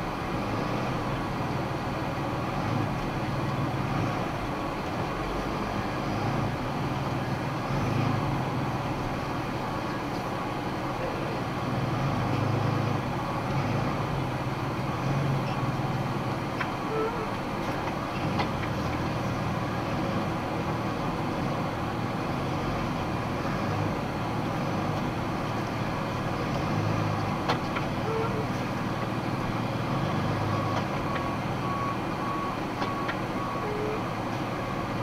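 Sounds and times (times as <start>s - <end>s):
truck engine running at low revs: 0.0s - 35.0s.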